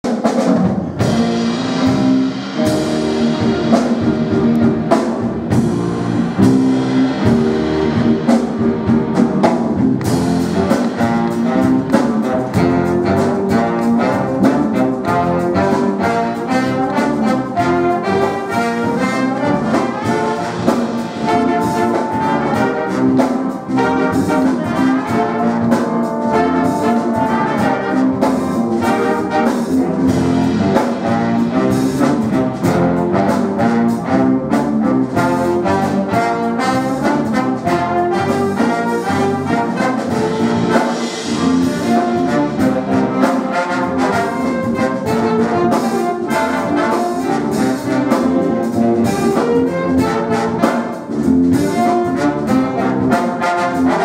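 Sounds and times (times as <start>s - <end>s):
jazz big band playing: 0.0s - 54.0s.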